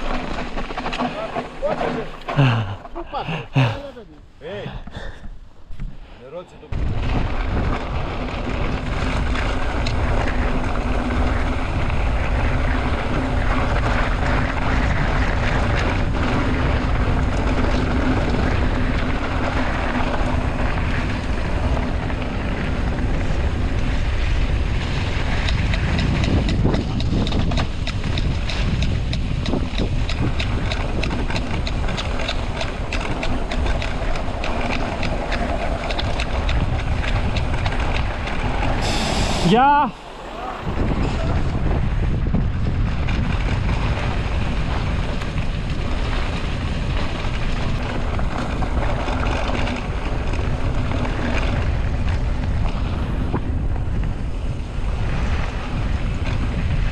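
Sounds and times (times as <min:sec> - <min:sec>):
rapid clicking and rattling: 0:00.0 - 0:02.9, 0:06.9 - 0:39.1, 0:40.8 - 0:56.9
bike tyre noise: 0:00.0 - 0:56.9
wind rushing over microphone: 0:00.0 - 0:56.9.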